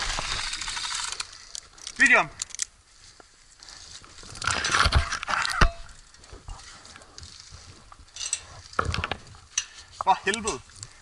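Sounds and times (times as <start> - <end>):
straw crunching and rustling: 0.0 - 11.0.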